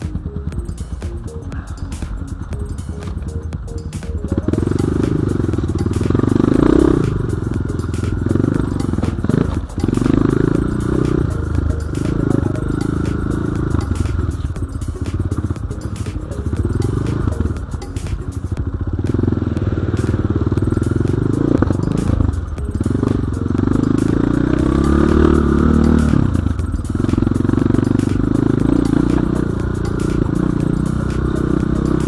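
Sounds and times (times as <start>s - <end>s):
dirt bike engine revving: 4.0s - 17.8s, 18.6s - 32.0s.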